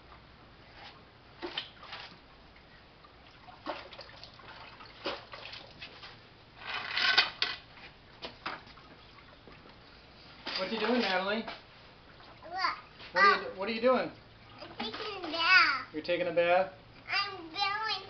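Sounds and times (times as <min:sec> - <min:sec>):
water splashing in a bucket: 0:00.8 - 0:15.4.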